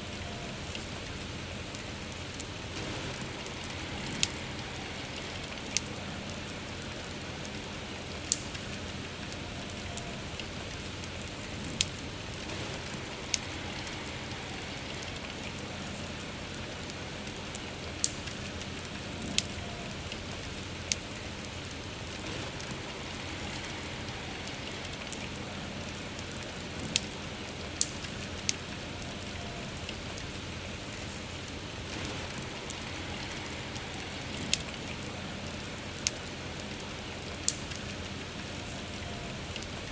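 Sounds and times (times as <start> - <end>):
bonfire crackling and popping: 0.0 - 39.9
steady rain falling: 0.0 - 39.9.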